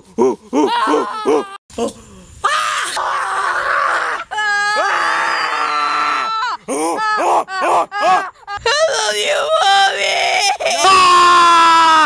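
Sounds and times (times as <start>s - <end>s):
boy screaming and wailing: 0.6s - 1.6s, 2.4s - 12.0s.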